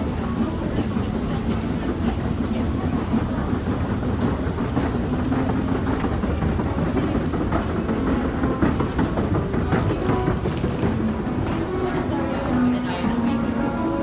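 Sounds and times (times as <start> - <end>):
crowd footsteps and bustle: 0.0 - 14.0
escalator machinery rumbling: 0.0 - 14.0.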